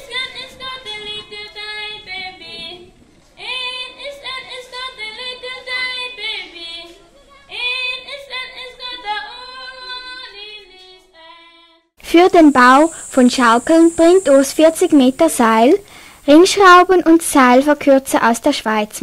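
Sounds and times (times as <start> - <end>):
high-pitched unaccompanied singing: 0.0 - 15.8.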